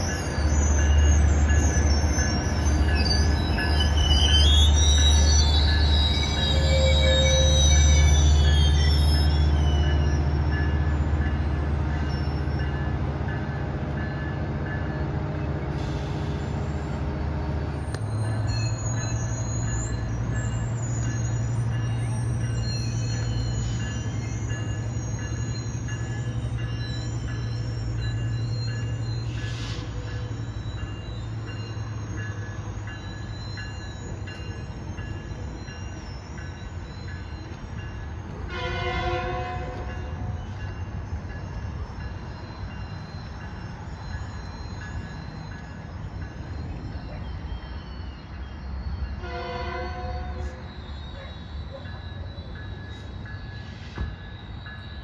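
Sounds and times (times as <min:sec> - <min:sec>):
diesel train engine hum: 0:00.0 - 0:55.0
train wheel squeal: 0:00.0 - 0:55.0.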